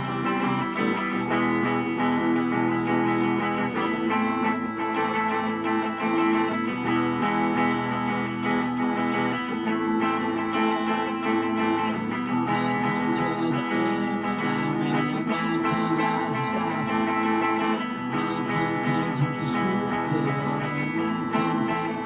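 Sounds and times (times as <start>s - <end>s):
rock guitar playing: 0.0s - 22.0s.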